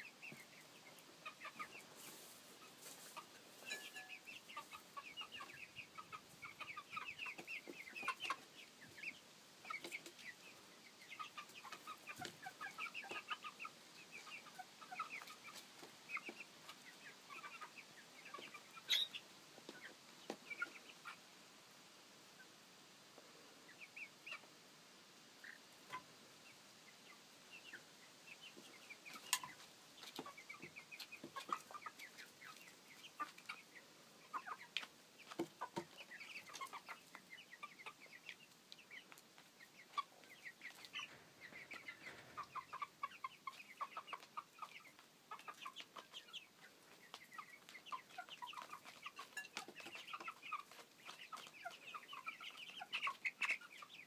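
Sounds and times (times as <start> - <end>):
chicks peeping and clucking: 0.0 - 54.0.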